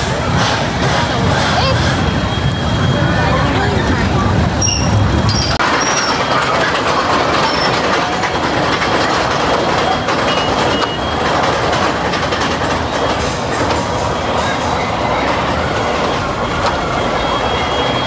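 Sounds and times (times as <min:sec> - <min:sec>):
roller coaster clattering rumble: 0:00.0 - 0:18.0.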